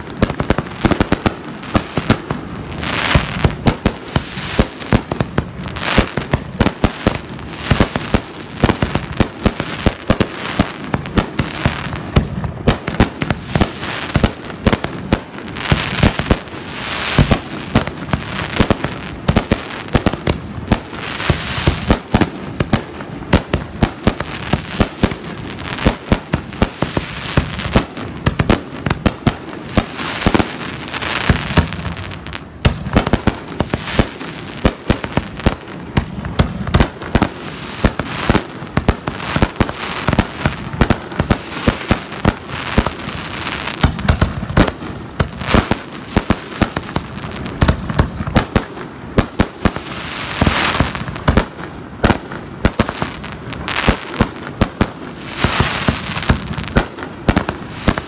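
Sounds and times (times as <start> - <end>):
fireworks banging: 0.0 - 58.0.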